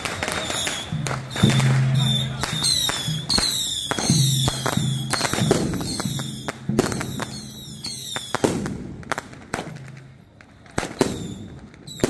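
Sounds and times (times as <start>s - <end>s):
firecrackers banging: 0.0s - 12.0s.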